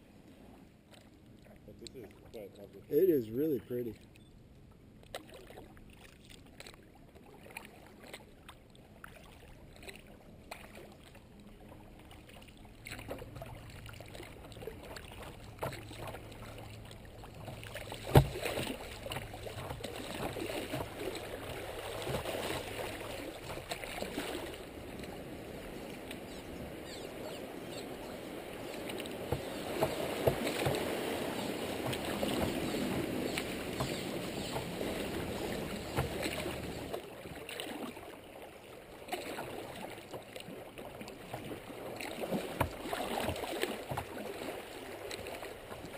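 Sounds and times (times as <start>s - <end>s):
creek water rushing around hull: 0.0s - 4.2s, 4.9s - 45.9s.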